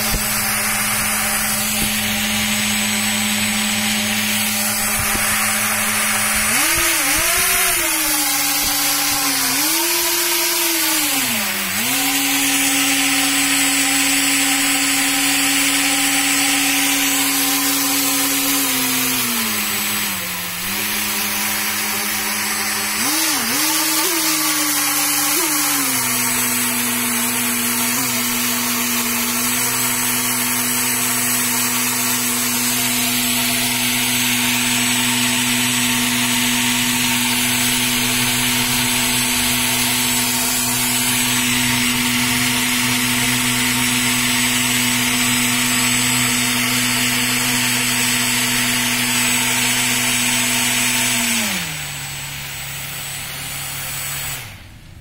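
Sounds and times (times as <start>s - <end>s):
electric motor whine: 0.0s - 54.8s.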